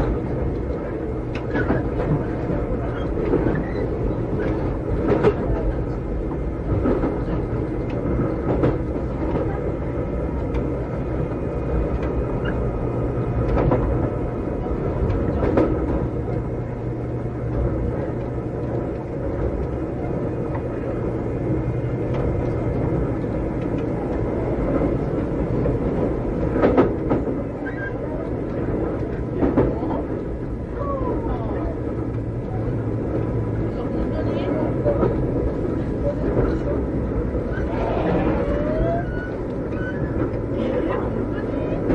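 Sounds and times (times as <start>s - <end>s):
rail-joint clacks: 0.0s - 9.7s, 10.3s - 30.5s, 31.6s - 41.9s
train car rumble and hum: 0.0s - 41.9s.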